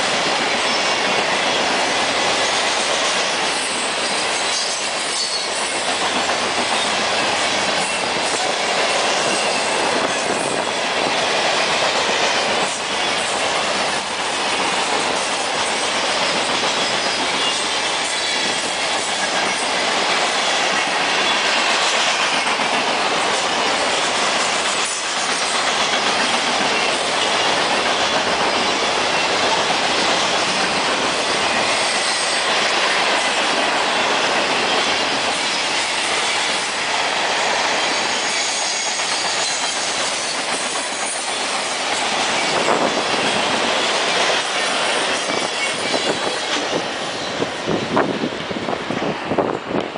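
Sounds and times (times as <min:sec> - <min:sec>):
wheels clicking over rail joints: 0:00.0 - 0:47.0
freight train wheels rumbling: 0:00.0 - 0:49.9.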